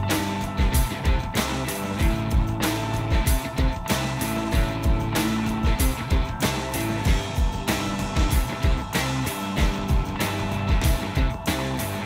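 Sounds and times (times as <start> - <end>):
music with a steady beat: 0.0 - 12.0.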